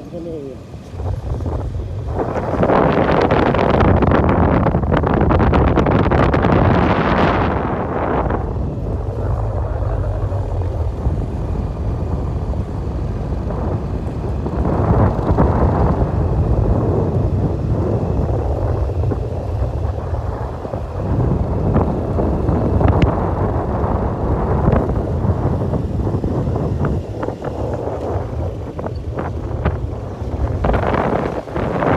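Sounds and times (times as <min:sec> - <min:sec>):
motorbike engine rumbling: 0:00.0 - 0:31.9
wind buffeting microphone: 0:00.0 - 0:31.9.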